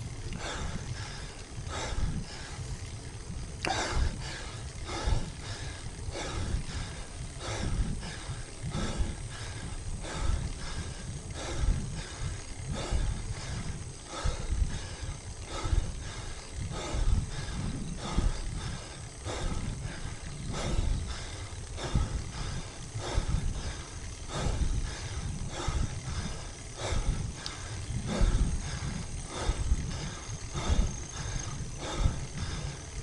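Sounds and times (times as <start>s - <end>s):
low wind rumble: 0.0s - 33.0s
person breathing hard: 0.0s - 33.0s.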